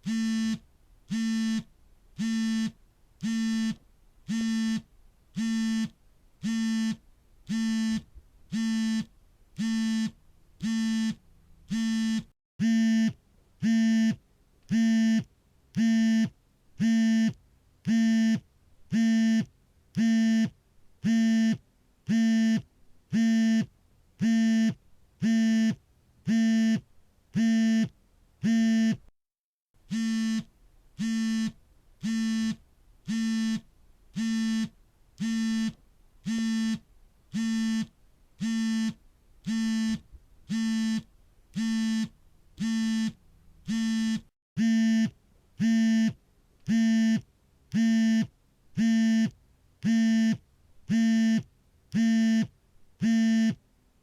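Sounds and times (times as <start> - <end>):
phone vibration buzzes: 0.0 - 26.8, 27.4 - 29.1, 29.9 - 53.6.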